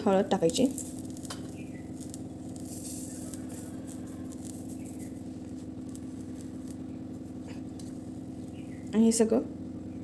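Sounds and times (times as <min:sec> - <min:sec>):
ghee sizzling and crackling: 0:00.0 - 0:10.0
steady low hum: 0:00.0 - 0:10.0.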